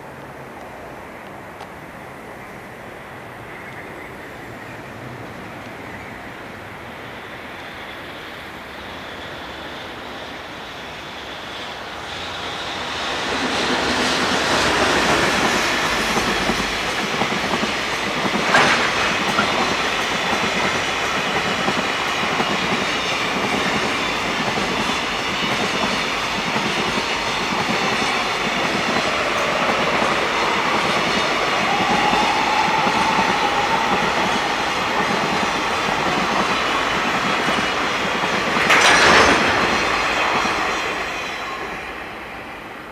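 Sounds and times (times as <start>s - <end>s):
freight train wheels rumbling: 5.3s - 42.9s.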